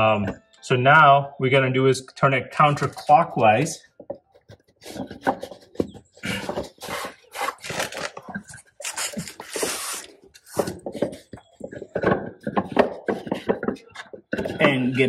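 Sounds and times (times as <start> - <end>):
rubbing and scraping handling noise: 2.6 - 15.0.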